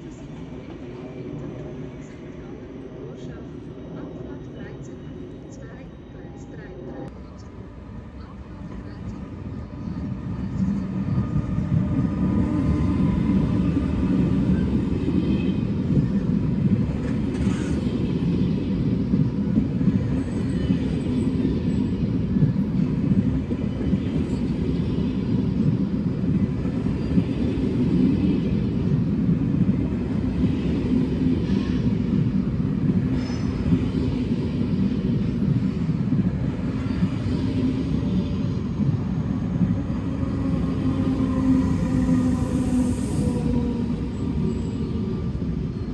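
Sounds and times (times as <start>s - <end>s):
train rumbling on rails: 0.0s - 45.9s.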